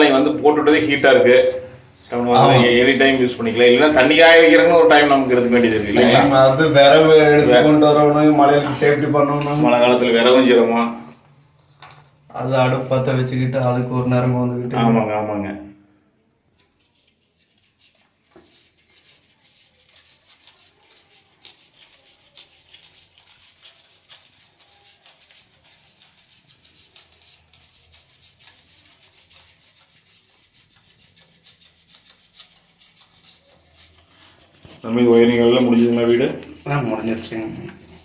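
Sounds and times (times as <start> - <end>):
rubbing and scraping handling noise: 0.1 - 15.1, 16.3 - 38.0.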